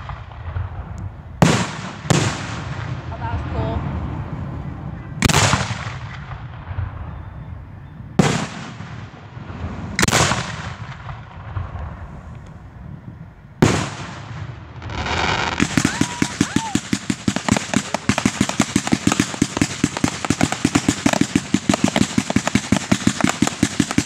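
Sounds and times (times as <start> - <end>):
firework crackling: 0.0 - 7.1, 8.2 - 24.0
firework booms: 0.0 - 24.0.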